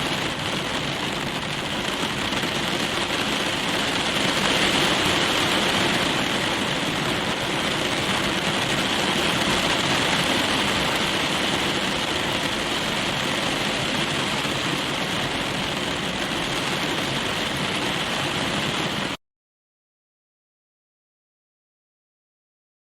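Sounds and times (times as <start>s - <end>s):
rain drumming on car roof: 0.0s - 19.2s.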